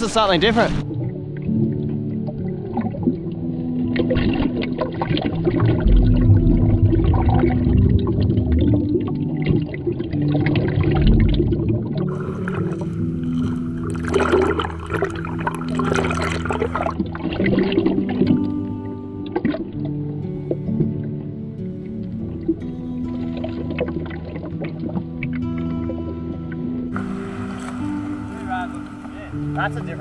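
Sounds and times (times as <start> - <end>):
underwater sloshing and bubbling: 0.0 - 30.0
music of low chords: 0.1 - 30.0.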